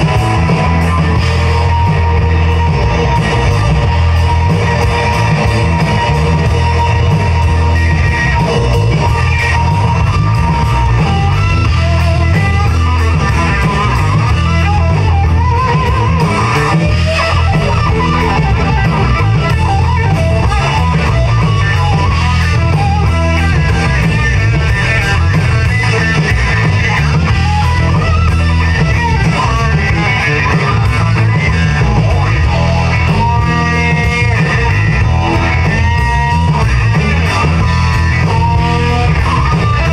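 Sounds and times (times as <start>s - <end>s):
drums: 0.0s - 39.9s
electric guitar lead: 0.0s - 39.9s
heavy low bass: 0.0s - 39.9s.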